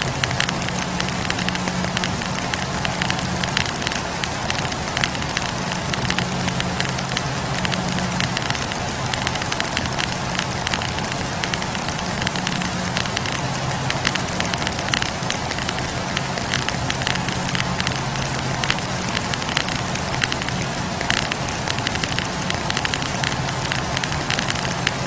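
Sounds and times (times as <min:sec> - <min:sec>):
firewood popping and snapping: 0:00.0 - 0:25.0
low steady hum: 0:00.0 - 0:25.0.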